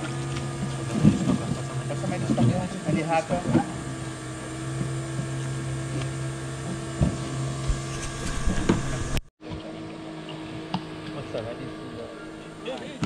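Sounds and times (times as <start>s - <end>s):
boat knocks and splashes: 0.0s - 11.4s
outboard motor idling: 0.0s - 13.0s.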